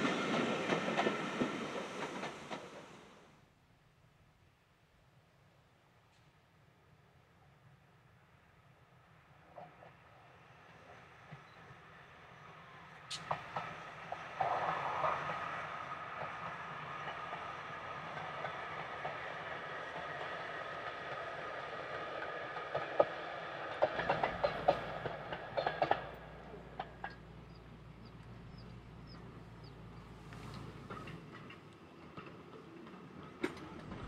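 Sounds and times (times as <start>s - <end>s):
train clicks and clanks: 0.0s - 3.3s, 9.3s - 34.0s
train running: 0.0s - 3.3s, 9.0s - 34.0s.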